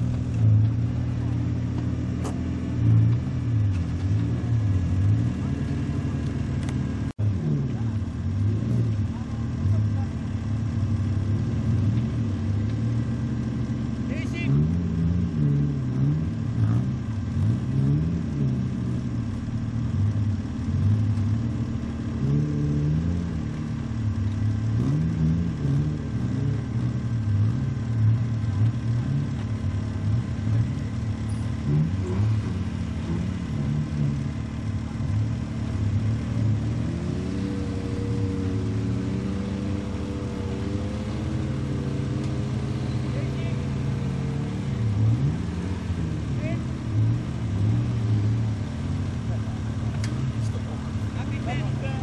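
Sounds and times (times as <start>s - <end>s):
truck engine revving: 0.0s - 52.0s.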